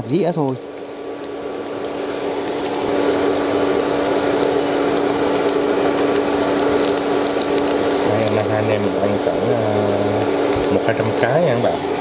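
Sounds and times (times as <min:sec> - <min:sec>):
patties sizzling in hot oil: 0:00.0 - 0:12.0
steady low hum: 0:00.0 - 0:12.0.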